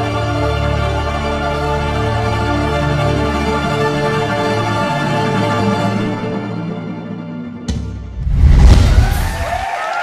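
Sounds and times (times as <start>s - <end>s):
background music with sustained tones: 0.0s - 8.2s.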